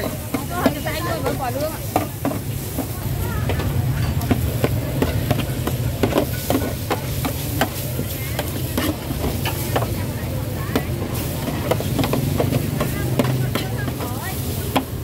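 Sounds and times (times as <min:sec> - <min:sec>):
food sizzling: 0:00.0 - 0:15.0
metal spatula clanking on wok: 0:00.0 - 0:15.0.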